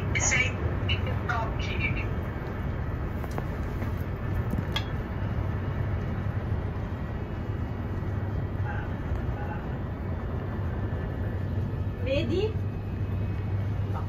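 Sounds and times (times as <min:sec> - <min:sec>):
cable car gondola rumble: 0:00.0 - 0:14.0.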